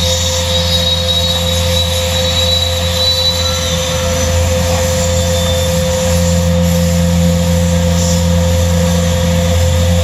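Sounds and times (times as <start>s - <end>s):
saw mechanical hum with high whine: 0.0s - 10.0s.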